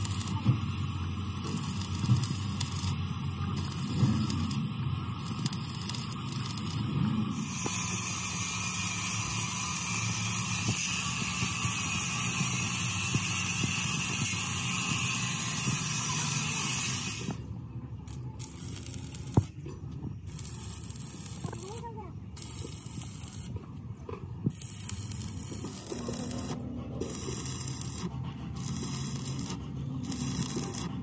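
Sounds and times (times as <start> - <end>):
welding arc crackling: 0.0 - 17.4, 18.1 - 19.6, 20.2 - 23.6, 24.5 - 31.0.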